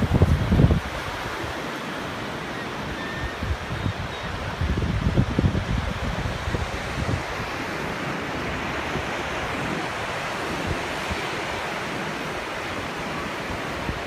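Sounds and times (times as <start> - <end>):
wind buffeting microphone: 0.0 - 1.7, 2.7 - 14.0
ocean surf washing: 0.0 - 14.0.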